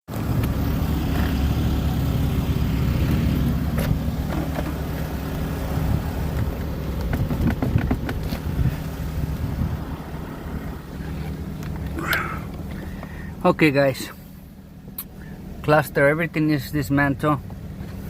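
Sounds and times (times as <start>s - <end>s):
vehicle engine running: 0.1s - 18.0s.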